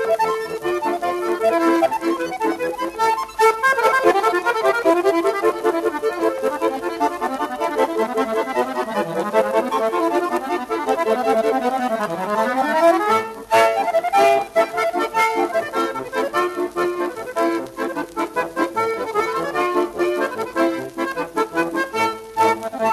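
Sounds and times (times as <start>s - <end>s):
accordion music: 0.0s - 22.9s.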